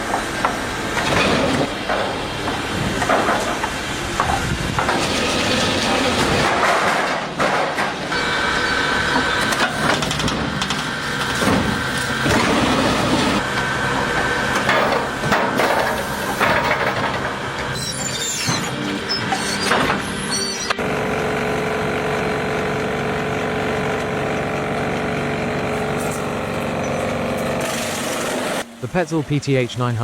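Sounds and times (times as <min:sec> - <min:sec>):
high machine whine: 0:00.0 - 0:29.8
wood-processing machinery grinding: 0:00.0 - 0:30.0.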